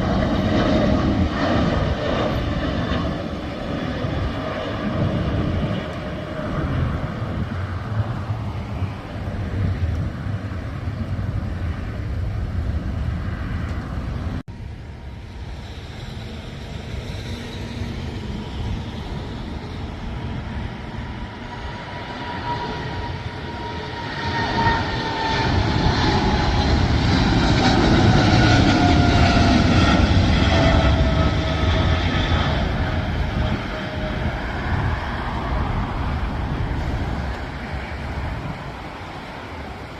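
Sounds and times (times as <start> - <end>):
jet engine whine: 0.0 - 39.9
jet engines rumbling: 0.0 - 39.9.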